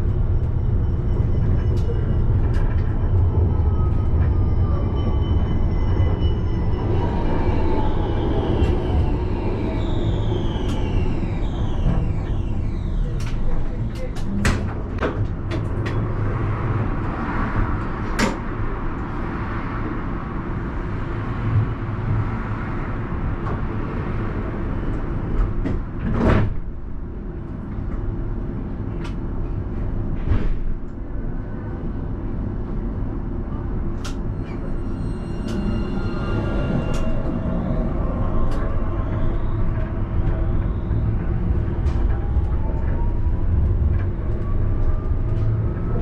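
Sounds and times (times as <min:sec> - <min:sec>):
tram equipment humming: 0:00.0 - 0:46.0.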